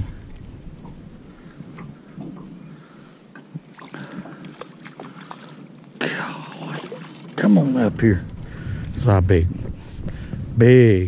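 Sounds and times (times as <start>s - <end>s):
light water sounds: 0.0s - 9.2s.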